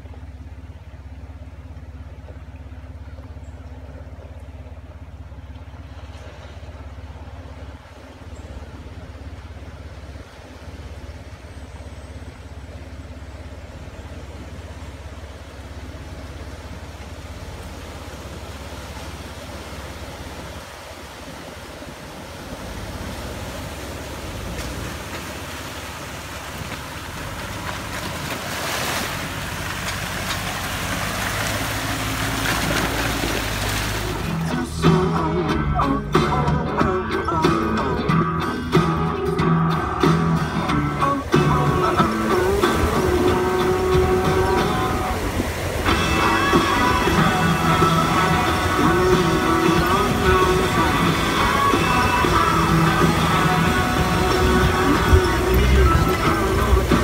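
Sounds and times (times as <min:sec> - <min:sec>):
water splashing from tyres: 0:00.0 - 0:36.5, 0:39.8 - 0:57.0
car engine running: 0:00.0 - 0:57.0.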